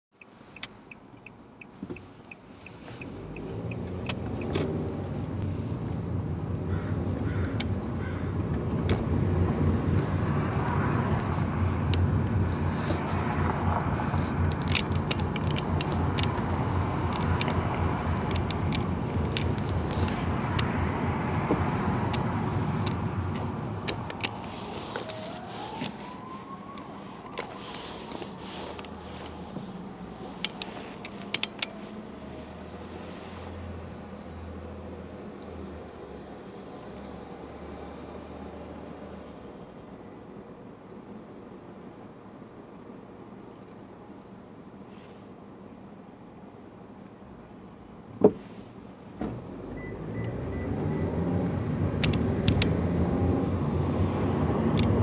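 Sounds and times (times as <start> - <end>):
car engine and road noise: 0.1 - 55.0.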